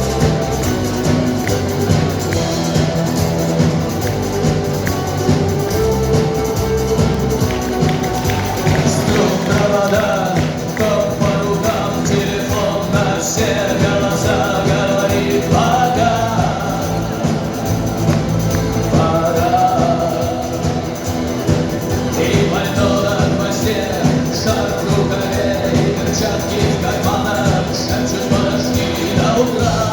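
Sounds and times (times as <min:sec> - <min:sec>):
live rock band playing: 0:00.0 - 0:29.9.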